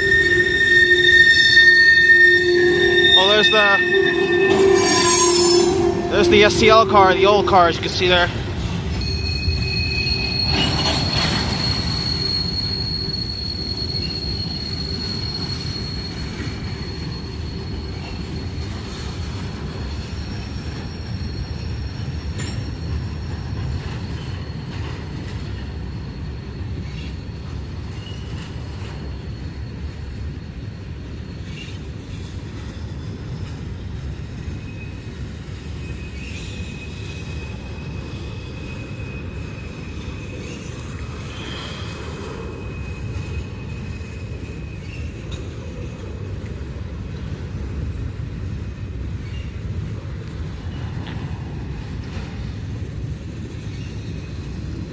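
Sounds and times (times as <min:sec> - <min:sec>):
high wheel squeal: 0:00.0 - 0:49.7
train wheels rumbling on rails: 0:00.0 - 0:54.9.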